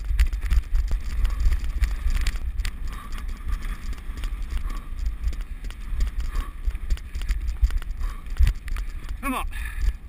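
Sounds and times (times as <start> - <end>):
running footfalls on grass: 0.0 - 10.0
wind buffeting microphone: 0.0 - 10.0.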